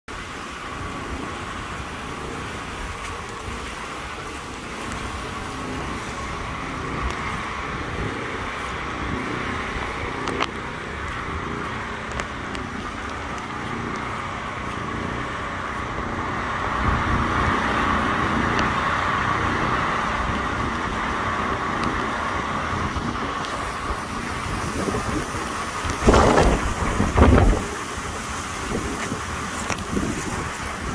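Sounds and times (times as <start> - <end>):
wind rushing through trees: 0.1 - 30.9
wind buffeting microphone: 0.2 - 30.9.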